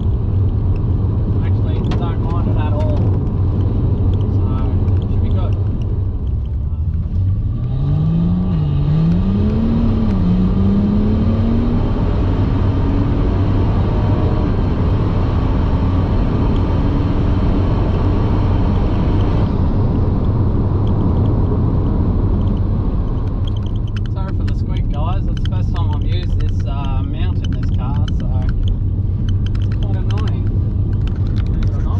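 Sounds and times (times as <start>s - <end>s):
car engine accelerating: 0.0s - 31.9s
road and tyre rumble: 0.0s - 31.9s.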